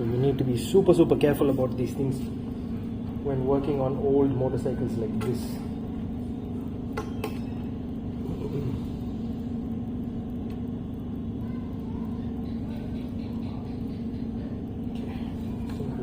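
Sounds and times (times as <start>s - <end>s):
constant hum: 0.0s - 16.0s
low background rumble: 0.0s - 16.0s.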